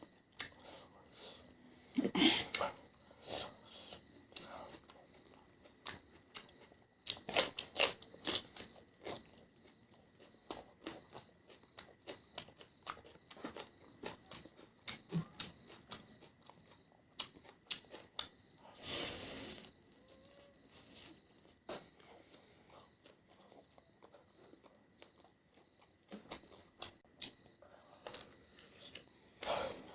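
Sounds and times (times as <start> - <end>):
crunchy chewing: 0.0 - 29.9.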